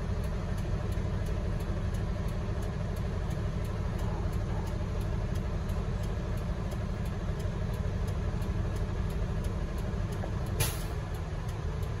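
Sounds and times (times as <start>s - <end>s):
heavy diesel machinery rumbling: 0.0s - 12.0s.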